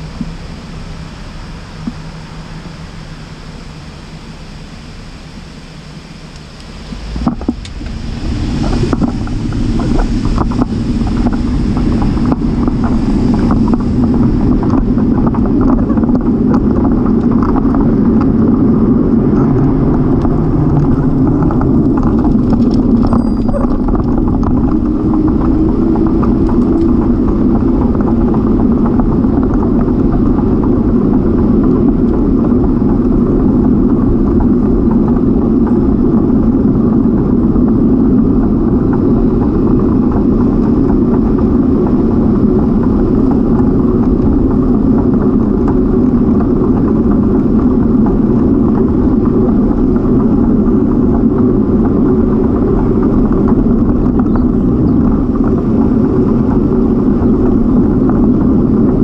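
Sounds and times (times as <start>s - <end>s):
wind buffeting microphone: 5.5s - 59.0s.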